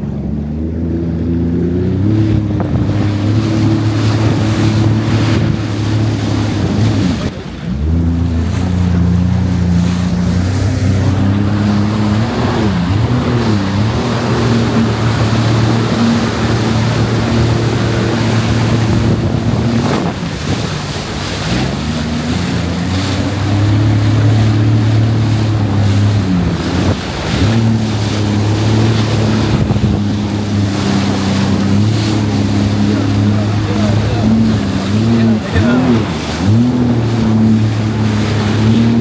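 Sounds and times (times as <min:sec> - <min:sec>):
jet ski engine running: 0:00.0 - 0:39.0
wind on microphone: 0:00.0 - 0:39.0
rushing water spray: 0:01.7 - 0:39.0.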